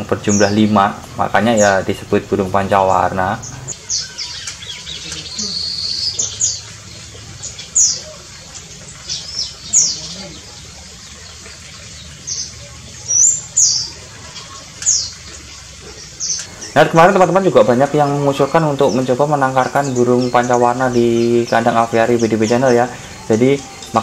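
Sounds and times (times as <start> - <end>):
songbirds calling: 0.0 - 24.0.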